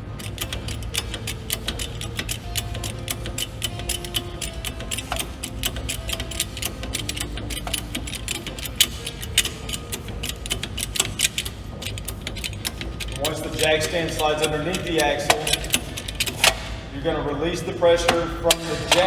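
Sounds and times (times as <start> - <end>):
metallic clicking of car jack: 0.0 - 19.0.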